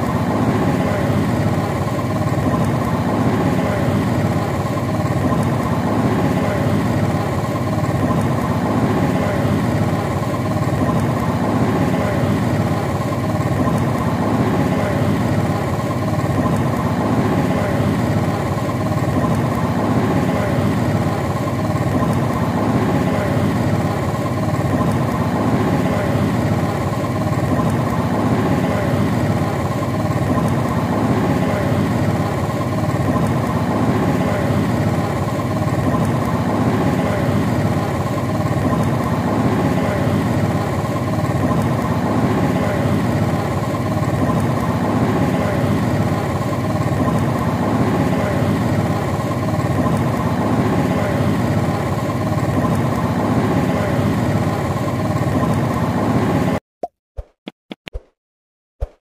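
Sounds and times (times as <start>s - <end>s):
vehicle engine humming: 0.0s - 56.6s.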